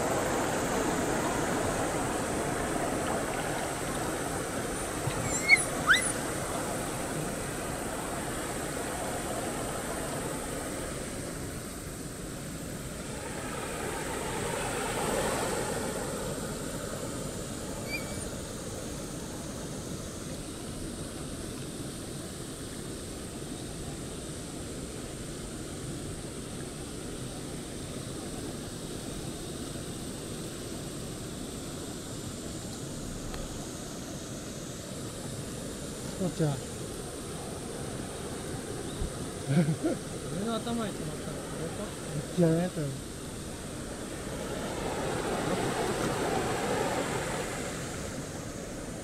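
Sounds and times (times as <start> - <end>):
river rushing over rocks: 0.0 - 49.0.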